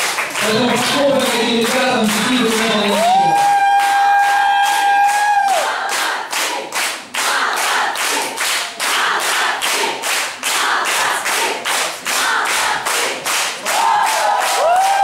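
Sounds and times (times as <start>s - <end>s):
crowd clapping in rhythm: 0.0s - 15.0s.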